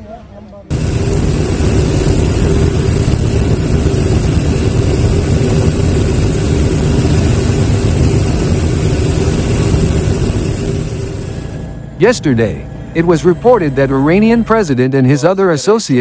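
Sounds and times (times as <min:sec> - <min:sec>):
aircraft engine drone: 0:00.7 - 0:16.0.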